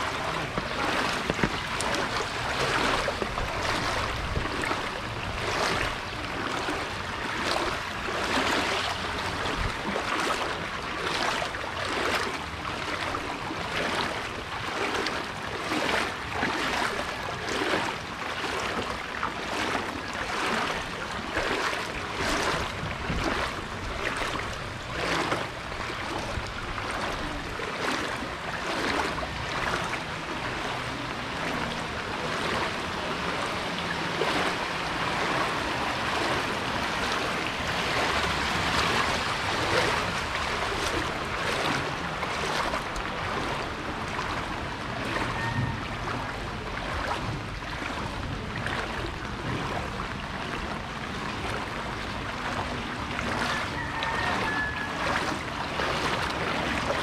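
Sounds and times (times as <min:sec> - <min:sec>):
footsteps splashing in water: 0:00.0 - 0:57.0.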